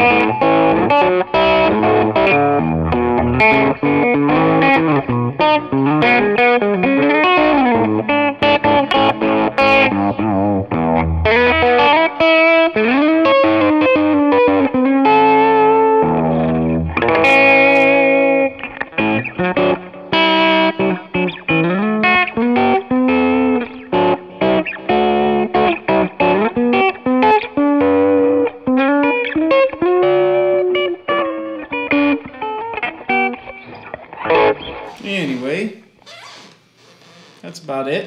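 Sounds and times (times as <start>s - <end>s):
overdriven electric guitar bends: 0.0s - 35.8s.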